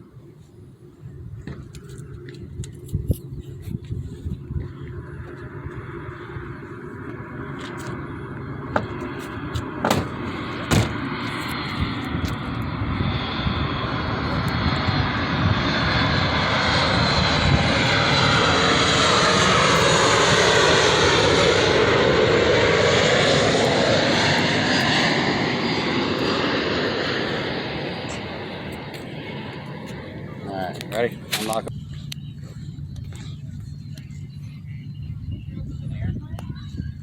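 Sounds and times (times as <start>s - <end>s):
airliner engines passing overhead: 0.0s - 37.0s.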